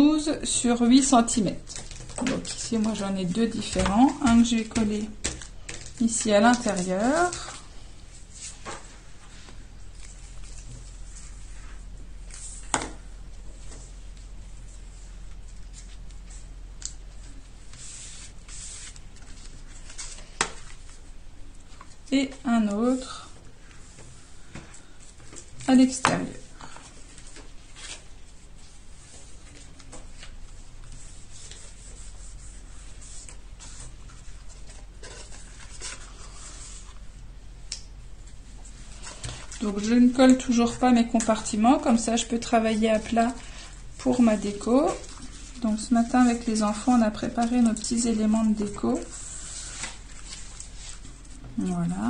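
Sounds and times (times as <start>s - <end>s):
paper rustling and scraping: 1.2s - 16.5s, 17.2s - 21.1s, 26.9s - 37.1s, 38.5s - 51.7s.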